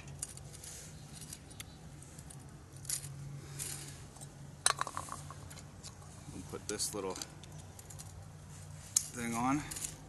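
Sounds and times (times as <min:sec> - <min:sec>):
metal parts clinking: 0:00.0 - 0:06.1, 0:06.7 - 0:08.3, 0:08.9 - 0:10.0.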